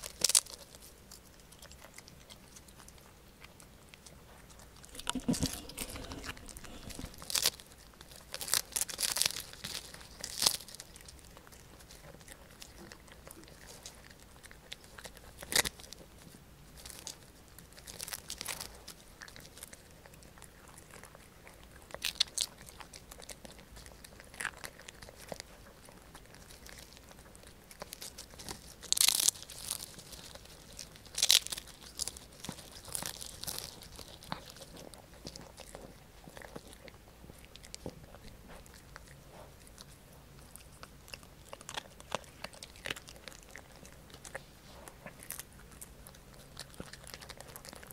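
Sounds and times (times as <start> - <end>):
dog crunching dried fish: 0.0 - 47.9.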